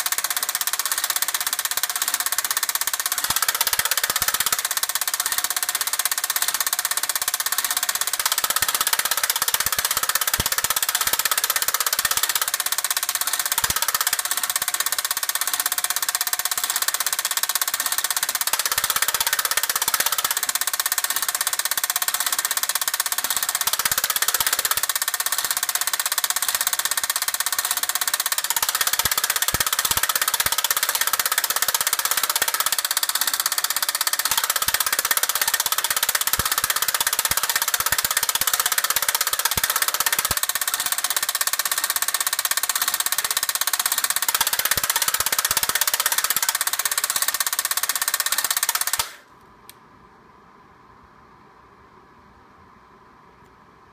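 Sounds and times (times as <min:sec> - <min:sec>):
tape punch mechanical chatter: 0:00.0 - 0:49.3
sharp click: 0:00.0 - 0:49.8.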